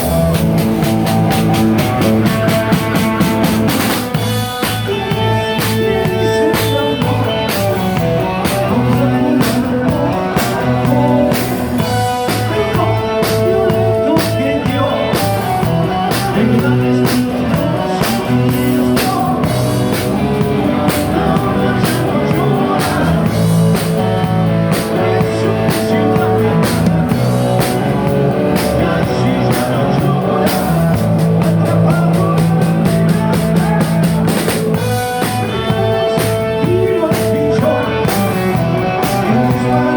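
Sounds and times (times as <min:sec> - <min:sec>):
drum kit beat: 0:00.0 - 0:39.9
electric guitar notes: 0:00.0 - 0:39.9.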